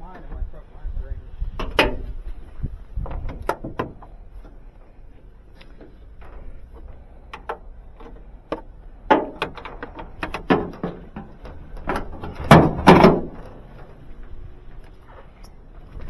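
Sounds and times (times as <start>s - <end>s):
knocks and clunks: 1.6s - 2.2s, 3.0s - 5.0s, 5.7s - 16.0s.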